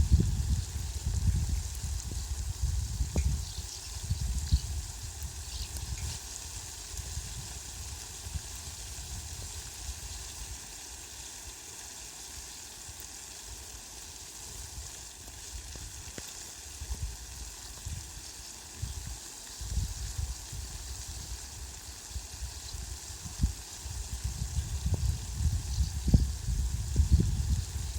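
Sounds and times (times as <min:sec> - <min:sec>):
heavy rain on leaves: 0:00.0 - 0:27.9.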